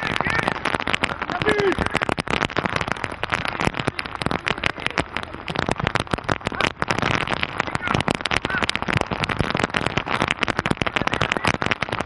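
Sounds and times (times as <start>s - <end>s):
rain pattering on microphone: 0.0s - 12.0s.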